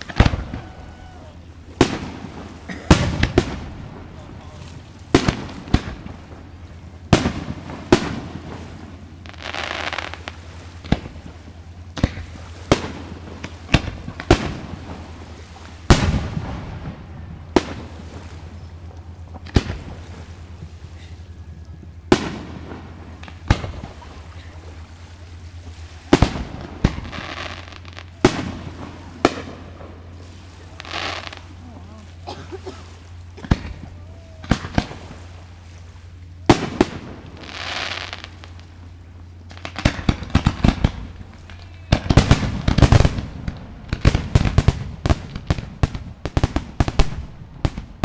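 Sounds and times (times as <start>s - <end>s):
fireworks banging: 0.0s - 31.6s, 32.2s - 48.0s
fireworks crackling: 0.0s - 48.0s
steady low hum: 0.0s - 48.0s.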